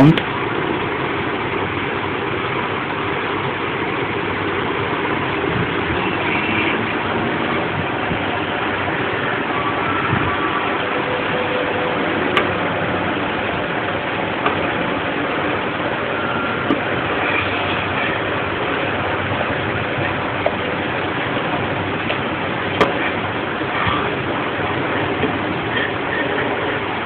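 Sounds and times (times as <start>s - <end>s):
steady rushing noise: 0.0s - 27.0s.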